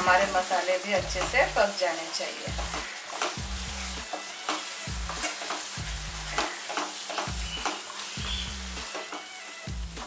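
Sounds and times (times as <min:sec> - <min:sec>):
paste sizzling in oil: 0:00.0 - 0:10.0.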